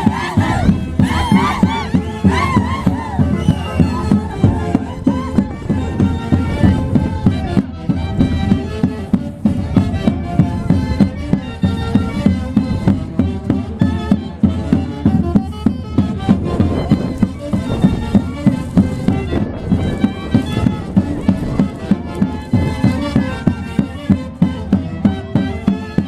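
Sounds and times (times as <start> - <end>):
reed-led band music: 0.0 - 26.0
steady drum beat: 0.0 - 26.0.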